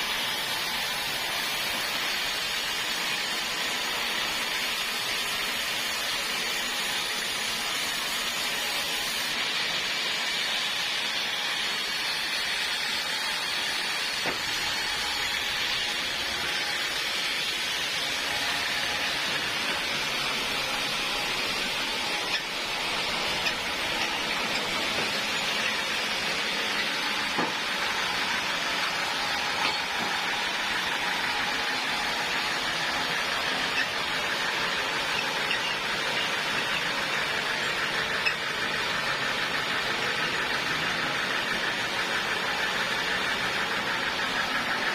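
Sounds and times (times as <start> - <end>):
sawmill cutting through log: 0.0 - 44.9.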